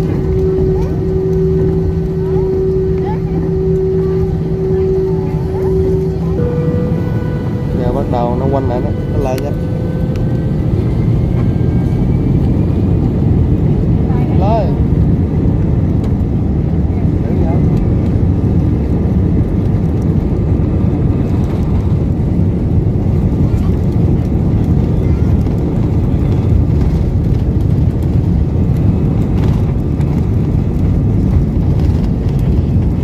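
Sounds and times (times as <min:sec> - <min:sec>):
airliner engines rumbling: 0:00.0 - 0:33.0.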